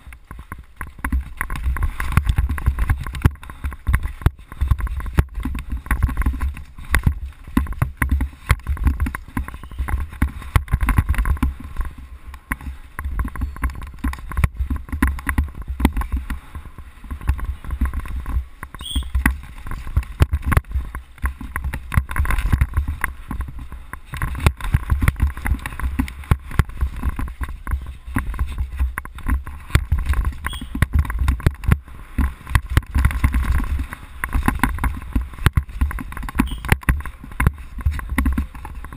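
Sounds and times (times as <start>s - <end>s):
bike knocks on rough trail: 0.0s - 38.9s
bike rattling: 0.0s - 38.9s.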